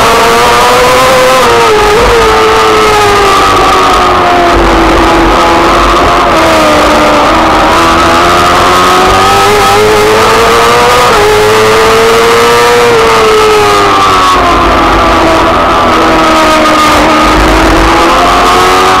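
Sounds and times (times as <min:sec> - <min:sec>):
racing engine at high revs: 0:00.0 - 0:19.0.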